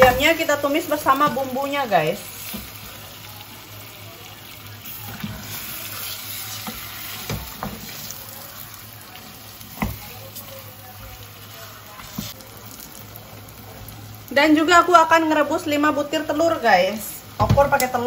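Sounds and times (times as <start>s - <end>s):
chicken wings sizzling in a pan: 0.0s - 18.0s.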